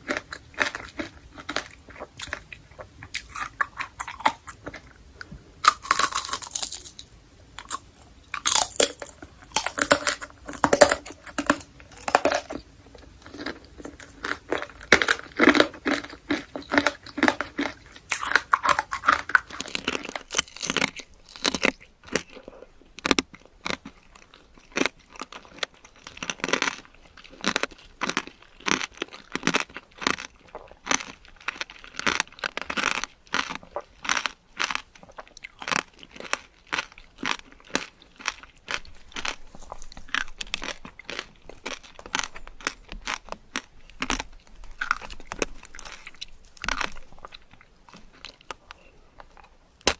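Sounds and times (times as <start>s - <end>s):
crunchy chewing of candy: 0.0s - 49.9s.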